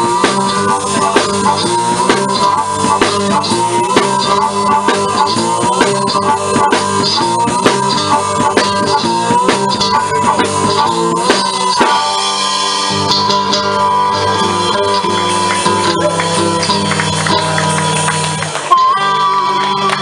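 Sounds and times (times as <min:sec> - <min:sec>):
blues band playing: 0:00.0 - 0:20.0
drums: 0:00.0 - 0:20.0
guitar: 0:00.0 - 0:20.0.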